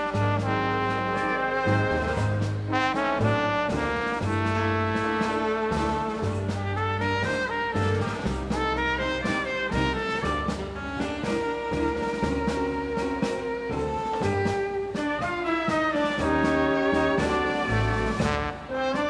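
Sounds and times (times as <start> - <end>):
bass line: 0.0 - 19.0
live dance band playing: 0.0 - 19.0
trumpets and trombones: 0.0 - 19.0.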